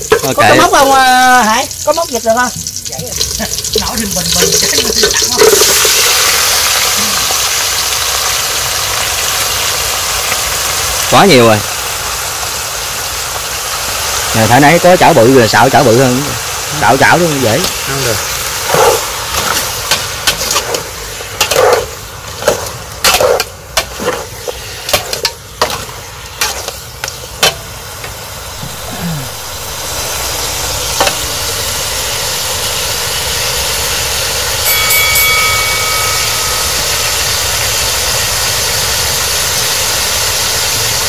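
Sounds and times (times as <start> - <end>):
fat sizzling in pan: 0.0 - 41.0.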